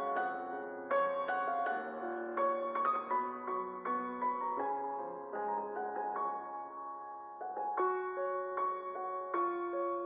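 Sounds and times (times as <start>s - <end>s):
slow keyboard melody: 0.0s - 10.0s.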